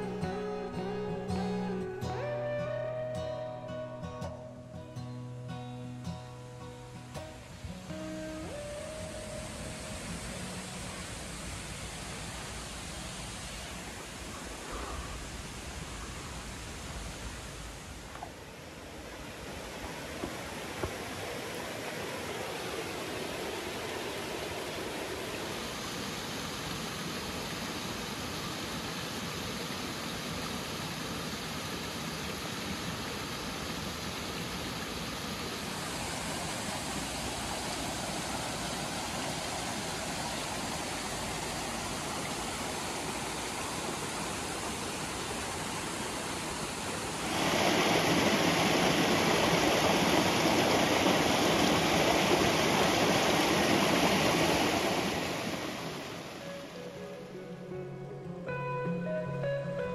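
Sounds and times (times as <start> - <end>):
creek rushing over rocks: 6.7 - 57.2.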